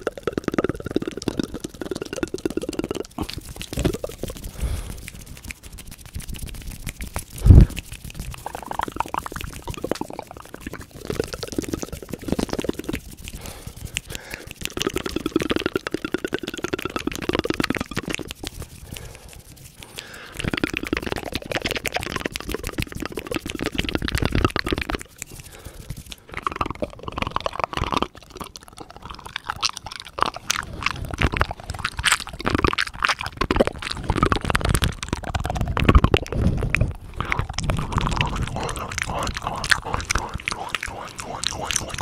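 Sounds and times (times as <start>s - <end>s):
mouth clicking and smacking: 0.0s - 42.0s.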